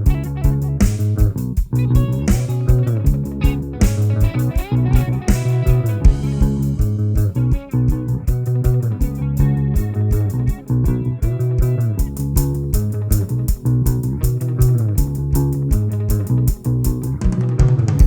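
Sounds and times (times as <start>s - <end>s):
guitar background music: 0.0s - 18.0s.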